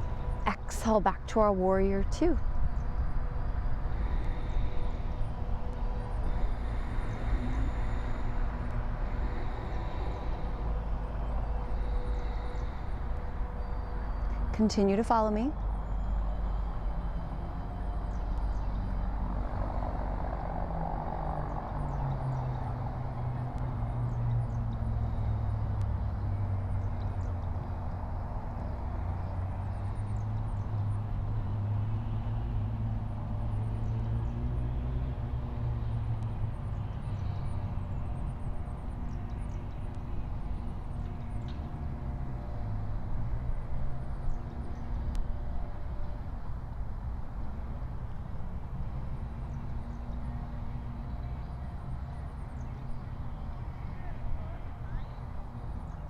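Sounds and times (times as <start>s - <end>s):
low engine drone: 0.0s - 56.0s.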